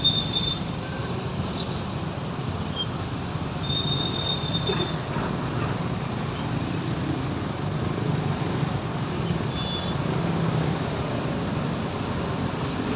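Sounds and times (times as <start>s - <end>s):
rumbling vehicle noise: 0.0s - 12.9s.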